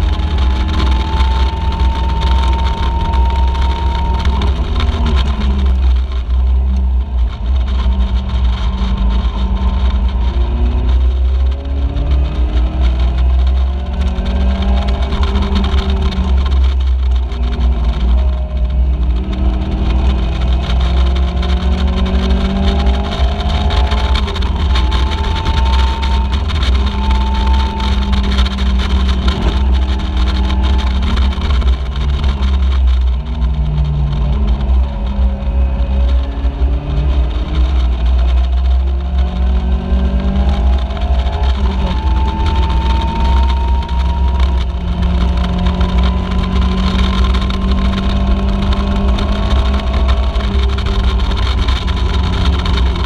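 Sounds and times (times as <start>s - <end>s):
race car engine revving: 0.0s - 53.0s
wind rumble on microphone: 0.0s - 53.0s.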